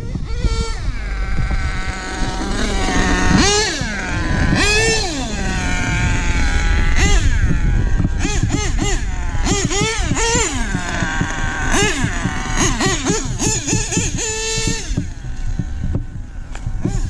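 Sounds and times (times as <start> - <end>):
low rumble: 0.0 - 17.0
small nitro engine revving: 0.0 - 17.0.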